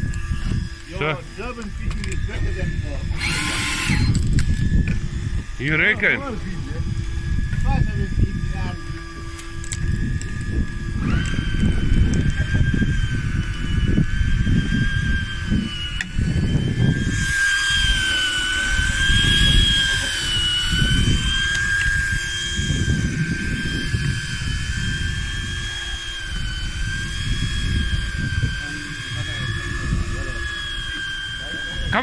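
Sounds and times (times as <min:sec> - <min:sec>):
high mechanical whine: 0:00.0 - 0:32.0
wind buffeting microphone: 0:00.0 - 0:32.0.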